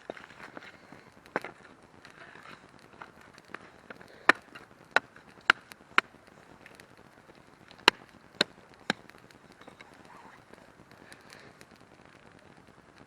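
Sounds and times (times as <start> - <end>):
firewood chopping strikes: 0.0 - 11.4.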